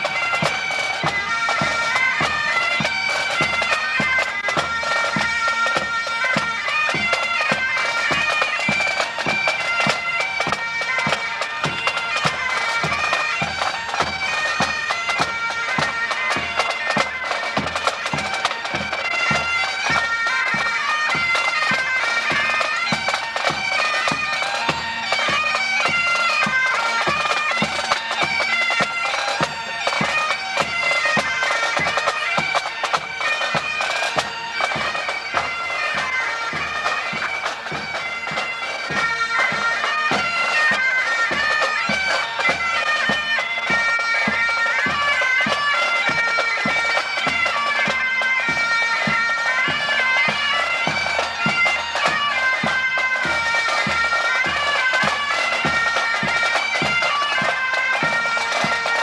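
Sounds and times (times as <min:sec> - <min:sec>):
bagpipes with drone: 0:00.0 - 0:59.0
drumbeats: 0:00.0 - 0:59.0.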